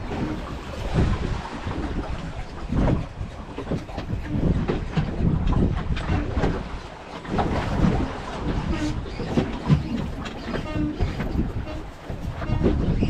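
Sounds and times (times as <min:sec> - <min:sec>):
water slapping boat hull: 0:00.0 - 0:13.0
wind buffeting microphone: 0:00.0 - 0:13.0.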